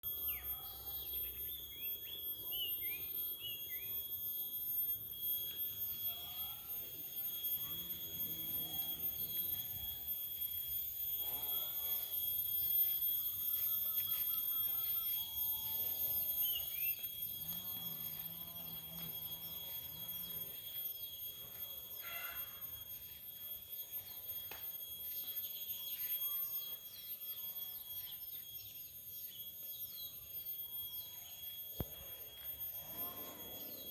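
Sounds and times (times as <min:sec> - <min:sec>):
high-pitched whine: 0:00.0 - 0:33.9.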